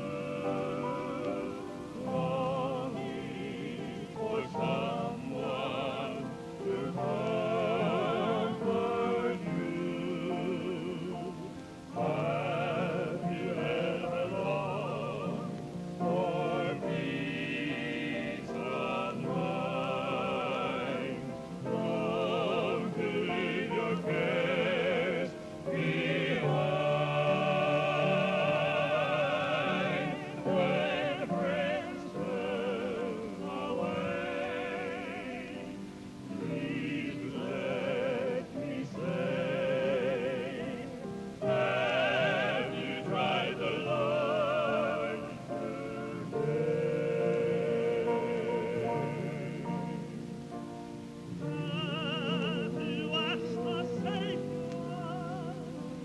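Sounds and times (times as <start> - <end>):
person singing gospel operatically: 0.0 - 56.0.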